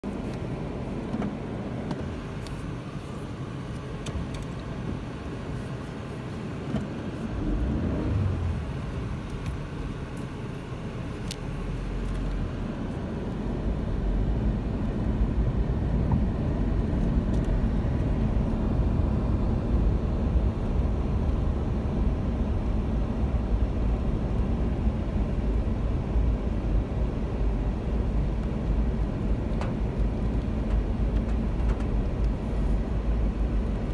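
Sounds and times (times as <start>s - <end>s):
car engine and tyres rumbling: 0.0s - 33.9s.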